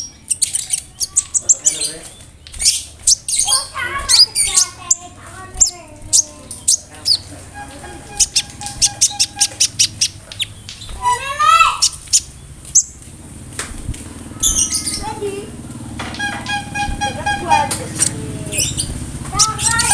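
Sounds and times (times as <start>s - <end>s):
bird singing chip notes: 0.0s - 13.0s, 15.9s - 19.9s.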